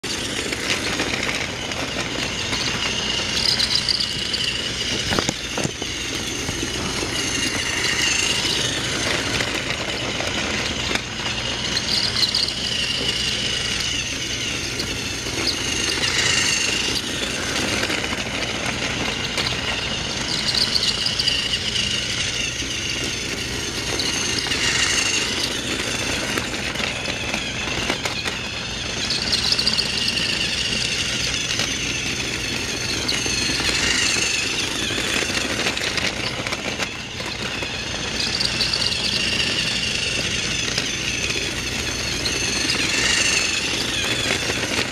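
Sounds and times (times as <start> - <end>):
toy train motor whirring: 0.0 - 44.9
toy train wheels rattling: 0.0 - 44.9.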